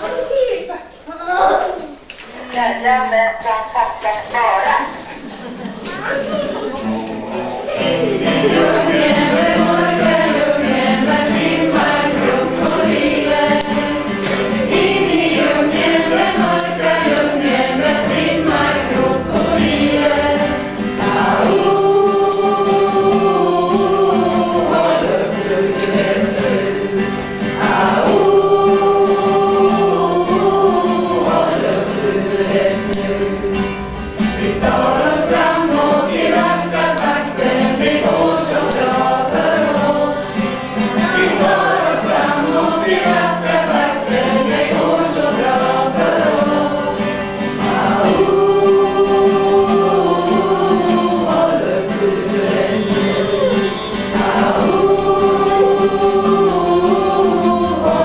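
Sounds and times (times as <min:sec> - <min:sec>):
choir singing: 0:05.5 - 0:58.0.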